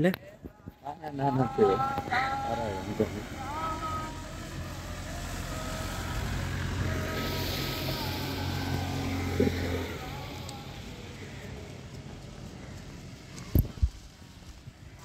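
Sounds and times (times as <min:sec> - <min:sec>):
bus engine droning: 0:00.8 - 0:15.0
motorbike passing: 0:00.8 - 0:15.0
tyre hiss on wet road: 0:01.7 - 0:15.0.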